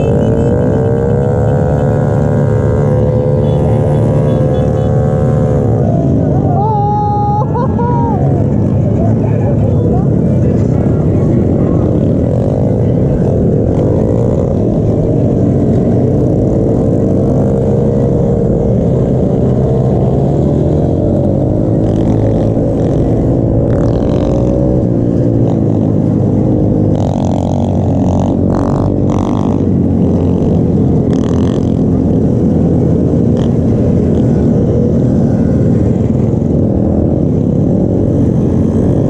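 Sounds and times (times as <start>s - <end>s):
pit bike engines revving: 0.0s - 39.0s.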